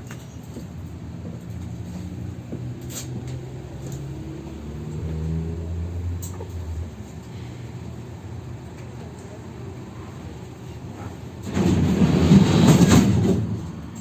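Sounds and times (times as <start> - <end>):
tram motor hum: 0.0 - 14.0.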